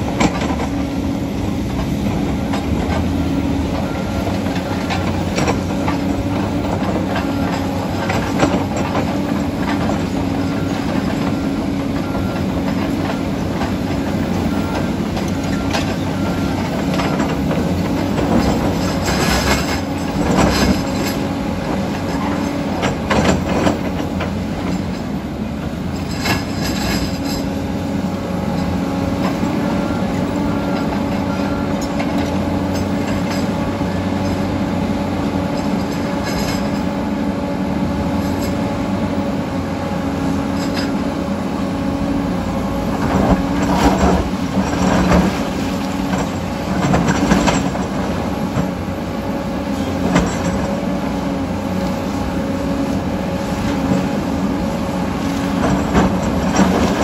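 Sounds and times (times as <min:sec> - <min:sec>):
diesel excavator running: 0:00.0 - 0:57.0
distant bulldozer running: 0:00.0 - 0:57.0
steel tracks clanking and squealing: 0:00.0 - 0:57.0.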